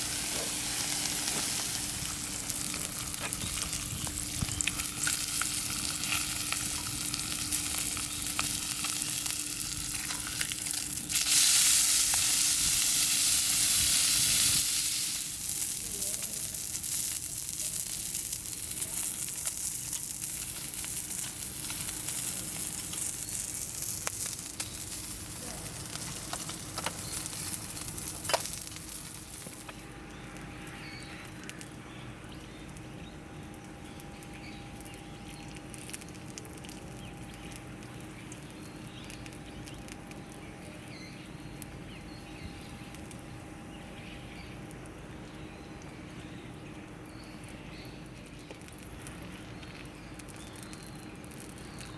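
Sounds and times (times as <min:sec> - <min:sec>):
campfire hissing and crackling: 0:00.0 - 0:31.8, 0:32.6 - 0:51.9.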